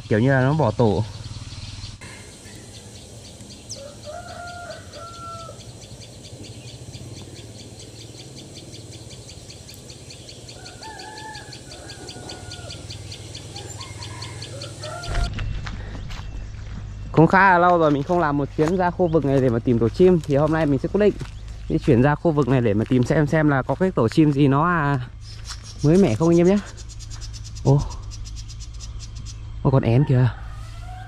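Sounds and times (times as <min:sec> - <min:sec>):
insect chirping: 0:00.0 - 0:15.3, 0:18.2 - 0:31.0
bird calling: 0:00.0 - 0:31.0.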